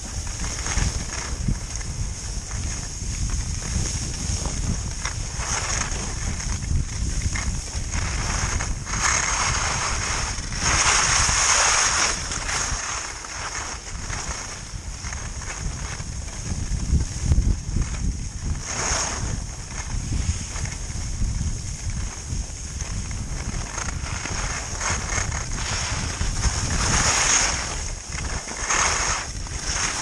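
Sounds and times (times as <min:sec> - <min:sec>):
skis scraping over snow: 0:00.0 - 0:30.0
wind rumbling on microphone: 0:00.0 - 0:30.0.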